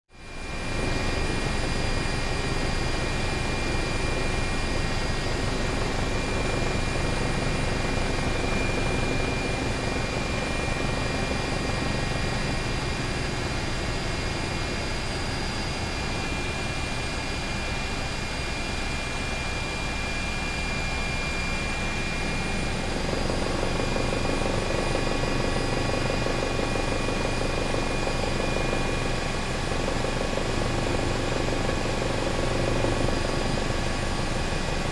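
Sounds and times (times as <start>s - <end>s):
high turbine whine: 0.1s - 34.9s
helicopter rotor chop: 0.2s - 34.9s.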